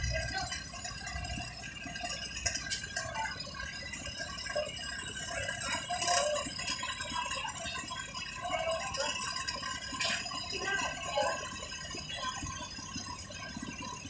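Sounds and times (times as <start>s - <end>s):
mixer truck running: 0.0s - 14.0s.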